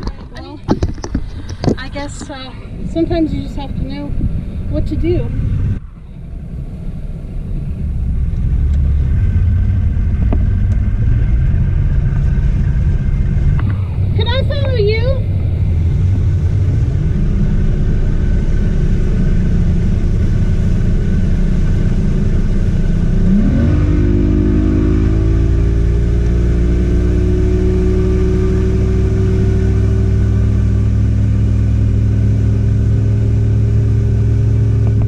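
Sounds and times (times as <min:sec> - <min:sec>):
outboard engine running: 0:00.0 - 0:35.0.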